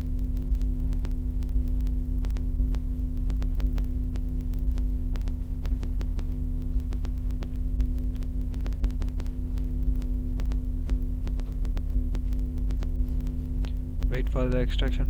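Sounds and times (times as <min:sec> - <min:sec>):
electrical mains hum: 0:00.0 - 0:15.0
faint irregular clicks: 0:00.0 - 0:15.0.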